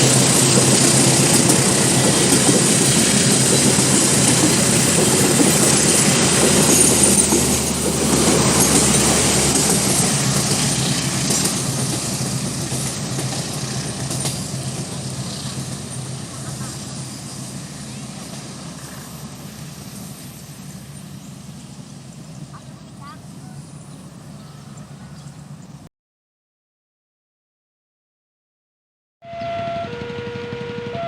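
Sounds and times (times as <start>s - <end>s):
train passing at speed: 0.0s - 25.9s, 29.2s - 31.0s.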